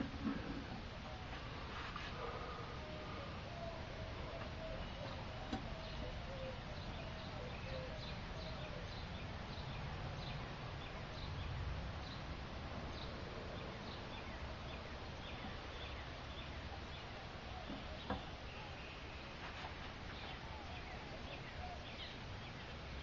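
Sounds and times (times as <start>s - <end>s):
low steady rumble: 0.0s - 23.0s
bird chirping: 2.2s - 23.0s.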